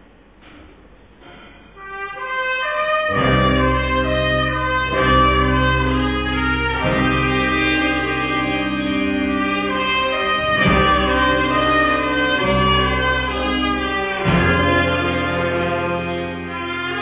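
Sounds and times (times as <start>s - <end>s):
ska band with horns: 1.8s - 17.0s
heavy bass line: 2.9s - 17.0s.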